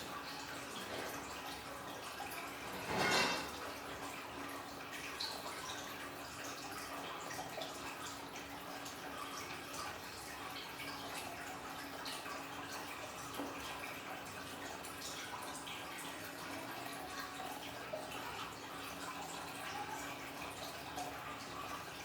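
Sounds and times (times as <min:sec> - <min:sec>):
small waterfall trickling: 0:00.0 - 0:22.0
water drips and plinks: 0:00.0 - 0:22.0.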